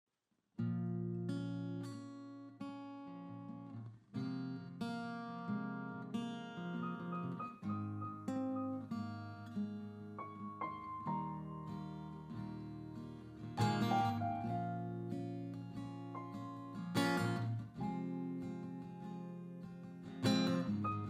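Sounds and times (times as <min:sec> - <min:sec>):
acoustic guitar picked and strummed: 0:00.6 - 0:21.0.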